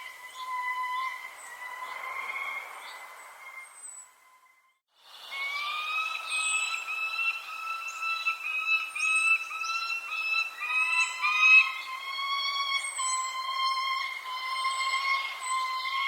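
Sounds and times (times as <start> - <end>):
birds whistling notes: 0.0 - 16.0.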